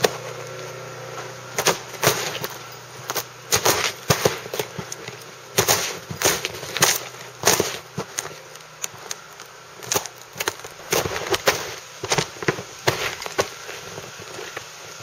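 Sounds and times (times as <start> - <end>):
footsteps crunching in icy snow: 0.0 - 15.0.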